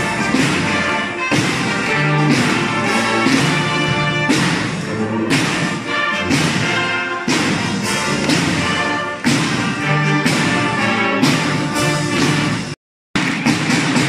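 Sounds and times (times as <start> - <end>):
wind band playing: 0.0 - 12.8
loud drum strikes: 0.0 - 14.0.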